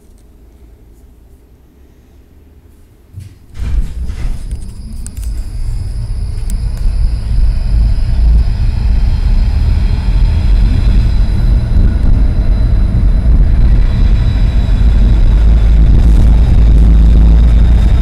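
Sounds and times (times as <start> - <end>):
faint high whine: 0.0 - 18.0
tram wheels rumbling on rails: 2.4 - 18.0.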